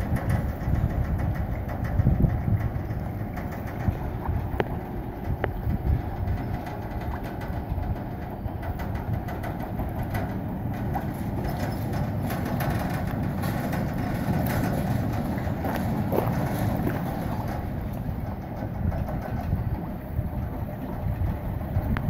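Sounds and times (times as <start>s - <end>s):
boat carriage rumbling on rails: 0.0s - 22.0s.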